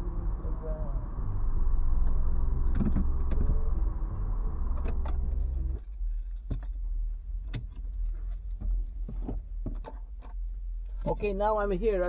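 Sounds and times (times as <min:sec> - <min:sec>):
motor hum: 0:00.0 - 0:09.8.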